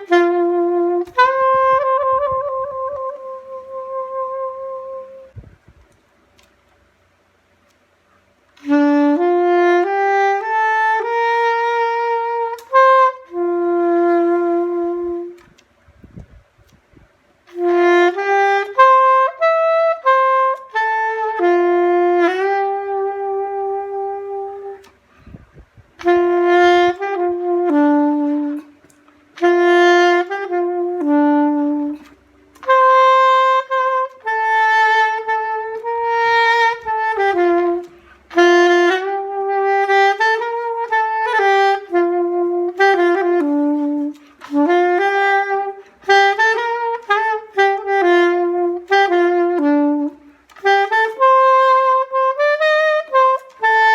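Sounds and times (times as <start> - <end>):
solo saxophone melody: 0.0 - 6.5, 7.5 - 53.9.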